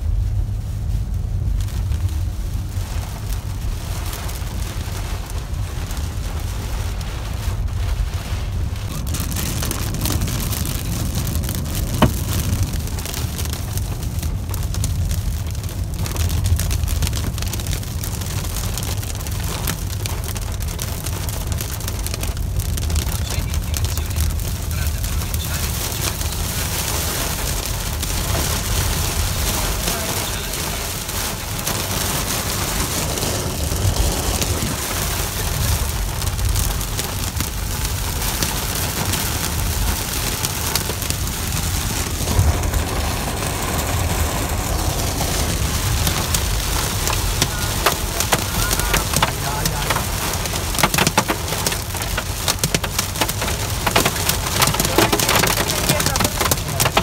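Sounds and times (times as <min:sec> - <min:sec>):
low rumble: 0:00.0 - 0:50.8
hail and rain on car roof: 0:00.0 - 0:57.0.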